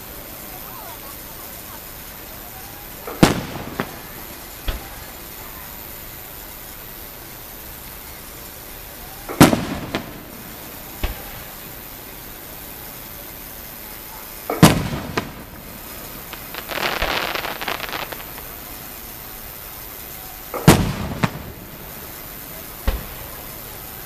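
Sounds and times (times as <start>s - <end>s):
dense firework crackling: 0.0s - 24.0s
firework crack: 0.0s - 24.0s
firework booms: 0.2s - 6.2s, 9.0s - 24.0s.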